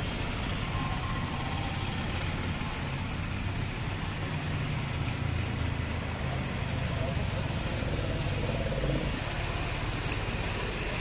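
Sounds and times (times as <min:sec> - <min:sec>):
rain hiss: 0:00.0 - 0:11.0
vehicle engines idling: 0:00.0 - 0:11.0.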